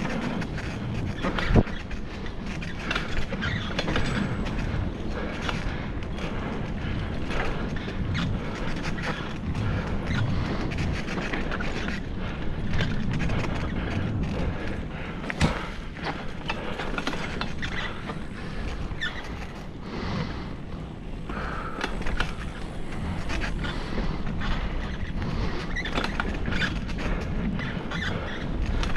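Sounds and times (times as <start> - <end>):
bicycle rattling over bumpy ground: 0.0 - 28.9.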